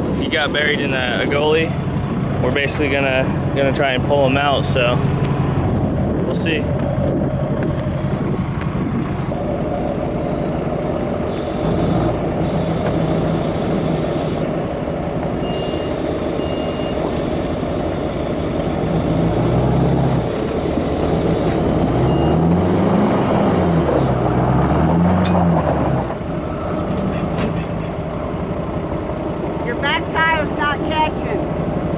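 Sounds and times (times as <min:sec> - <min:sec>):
diesel engines revving under load: 0:00.0 - 0:31.9.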